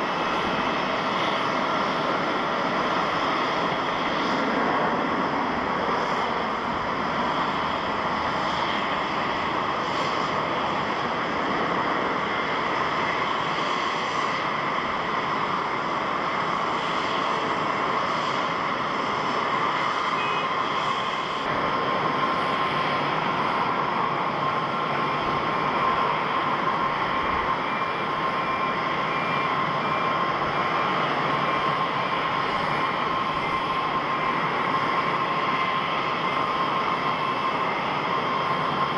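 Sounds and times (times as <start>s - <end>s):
jet engine whine: 0.0s - 38.9s
jet engines roaring: 0.0s - 38.9s.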